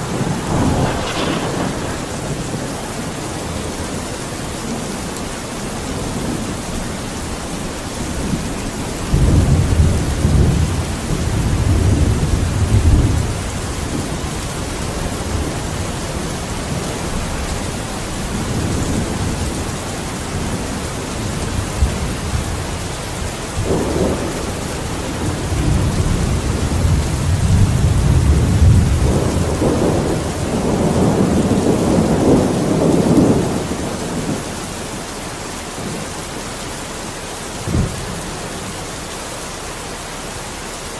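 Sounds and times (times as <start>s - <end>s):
thunder rumbling: 0.0s - 39.2s
heavy rain: 0.0s - 40.9s.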